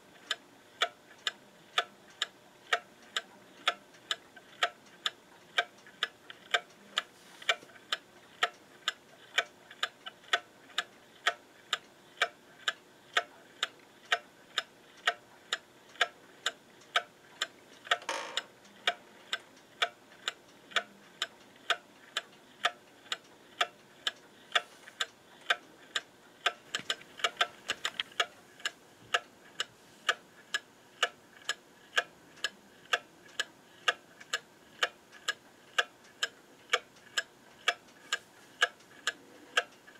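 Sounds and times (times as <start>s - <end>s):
clock ticking: 0.2s - 39.9s.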